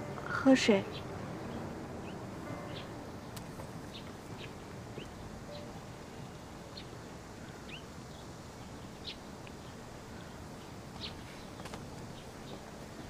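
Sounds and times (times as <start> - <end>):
faint background noise: 0.0 - 13.0
small birds chirping: 0.0 - 13.0.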